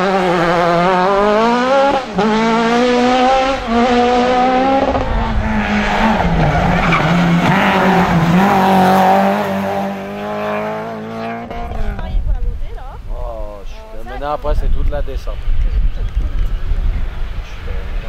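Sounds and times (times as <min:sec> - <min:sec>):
rally car engine at full throttle: 0:00.0 - 0:12.6, 0:14.7 - 0:18.0.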